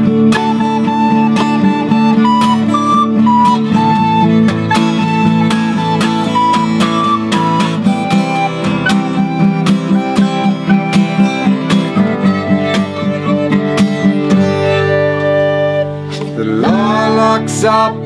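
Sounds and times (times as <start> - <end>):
wooden flute melody: 0.0 - 17.4
acoustic guitar strumming: 0.0 - 18.0.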